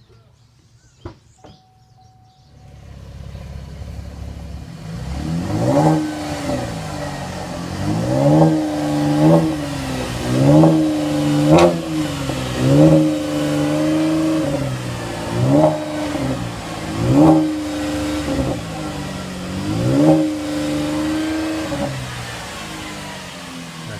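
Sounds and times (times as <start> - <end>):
car engine revving: 2.0 - 23.9
exhaust crack: 2.4 - 23.9.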